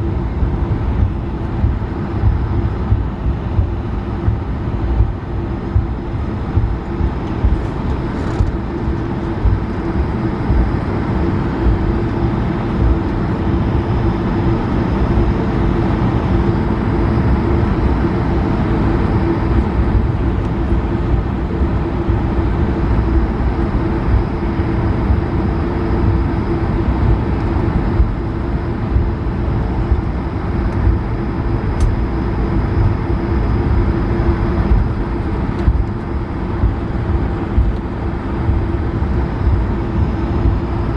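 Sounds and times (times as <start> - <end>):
aircraft cabin drone: 0.0 - 40.9.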